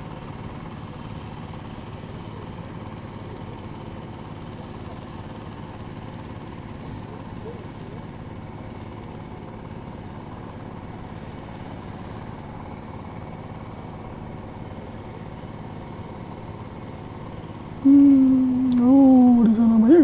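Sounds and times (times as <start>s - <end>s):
distant tractor engine running: 0.0s - 20.0s.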